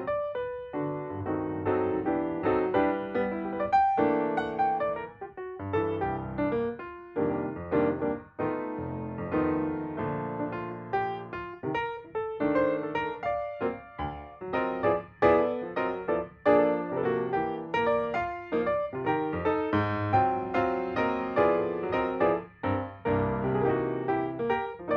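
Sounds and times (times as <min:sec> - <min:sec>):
light piano melody: 0:00.0 - 0:24.9.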